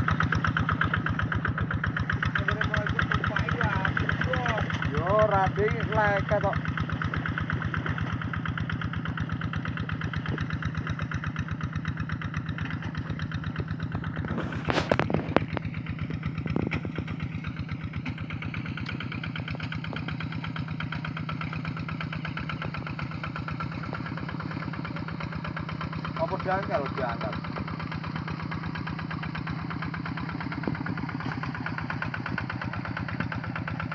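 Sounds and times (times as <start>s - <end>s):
hand tractor engine chugging: 0.0s - 33.9s.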